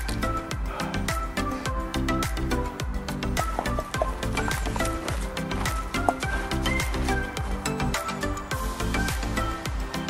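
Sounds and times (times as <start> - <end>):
music with deep bass: 0.0 - 10.0.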